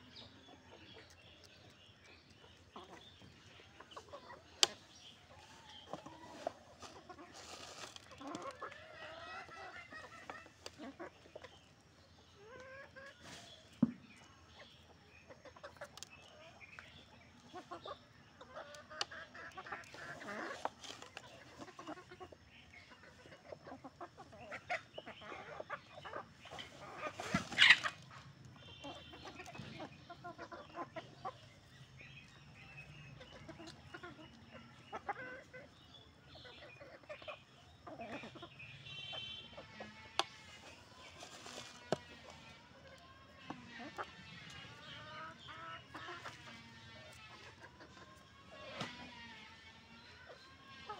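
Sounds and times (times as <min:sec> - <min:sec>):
hens clucking: 0:00.0 - 0:50.9.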